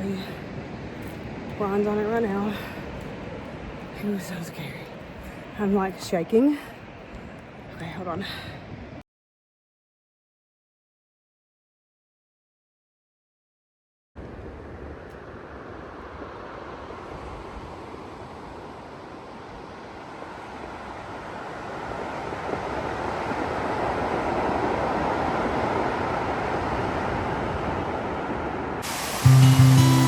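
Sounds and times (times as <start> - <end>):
rushing water: 0.0 - 9.0, 14.2 - 30.0.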